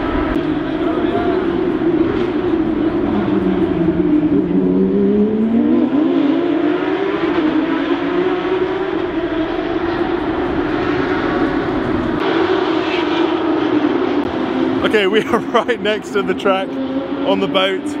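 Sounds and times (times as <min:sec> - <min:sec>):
race car engines accelerating: 0:00.0 - 0:18.0.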